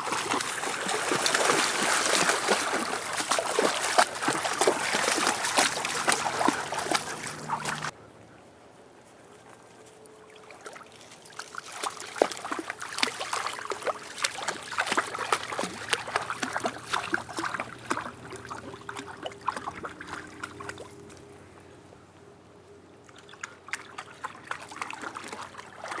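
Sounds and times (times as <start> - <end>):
dog splashing through water: 0.0 - 7.9, 10.4 - 21.1, 23.1 - 26.0.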